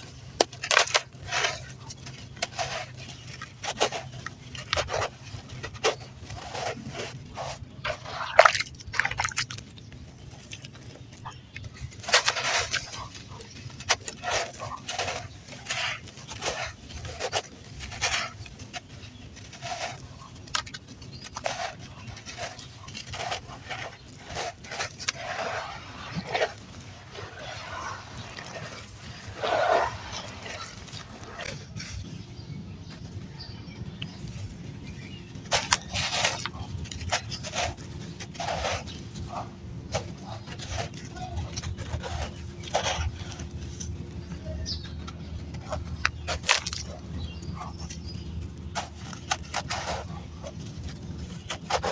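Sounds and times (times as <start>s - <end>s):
dry dirt crunching: 0.0s - 51.9s.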